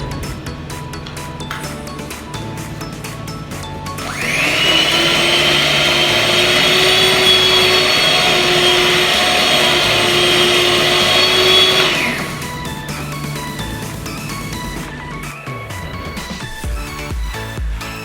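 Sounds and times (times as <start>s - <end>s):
background music: 0.0s - 18.0s
electric mixer motor whining: 2.0s - 16.5s.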